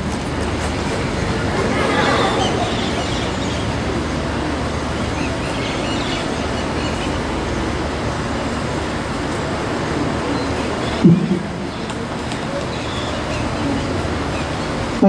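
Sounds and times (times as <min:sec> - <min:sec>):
low rumbling outdoor background noise: 0:00.0 - 0:15.0.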